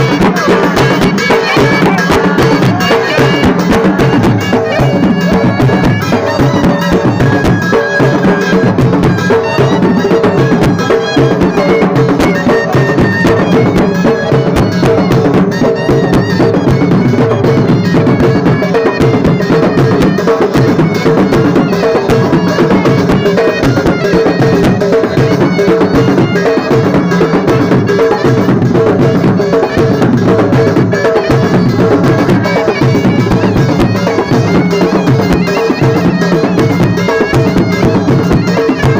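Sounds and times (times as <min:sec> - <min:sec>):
double-reed shawm melody: 0:00.0 - 0:38.9
traditional drumming: 0:00.0 - 0:38.9.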